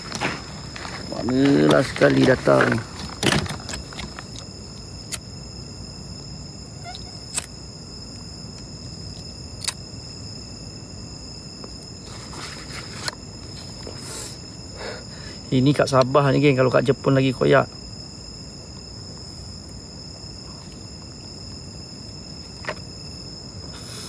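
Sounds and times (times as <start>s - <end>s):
night insects chirping: 0.0s - 24.0s.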